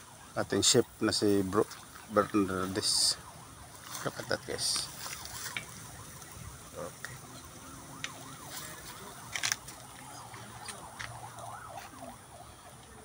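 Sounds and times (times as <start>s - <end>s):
faint wavering wail: 2.3s - 13.0s.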